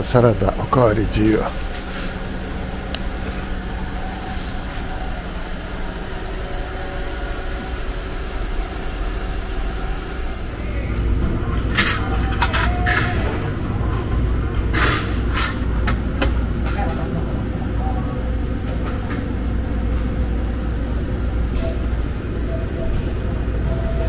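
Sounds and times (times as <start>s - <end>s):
outdoor street ambience: 0.0s - 24.0s
restaurant room noise: 0.0s - 24.0s.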